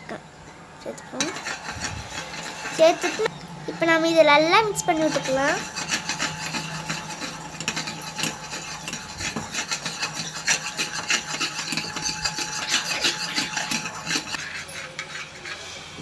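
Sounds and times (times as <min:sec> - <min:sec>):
spoon scraping a bowl: 0:01.0 - 0:03.8, 0:04.6 - 0:16.0.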